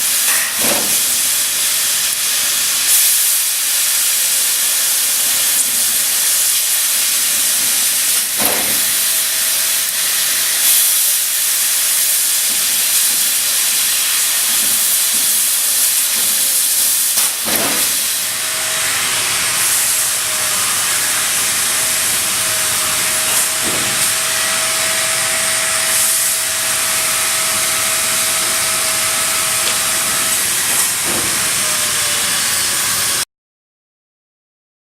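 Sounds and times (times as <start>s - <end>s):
laser cutting machine hissing: 0.0s - 33.2s.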